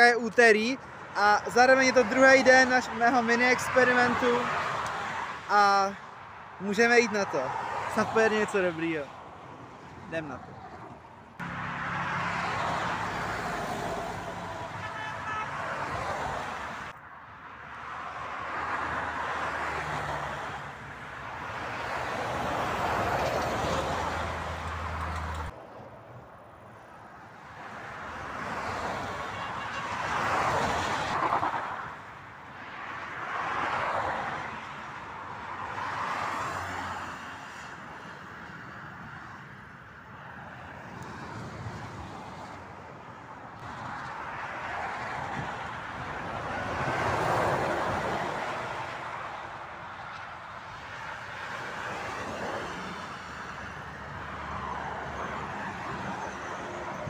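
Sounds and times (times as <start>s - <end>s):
traffic passing by: 0.0s - 57.0s.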